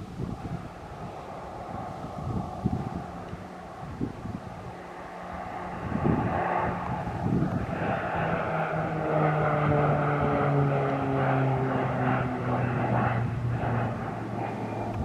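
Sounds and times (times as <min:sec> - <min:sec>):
propeller plane passing by: 0:00.0 - 0:15.0.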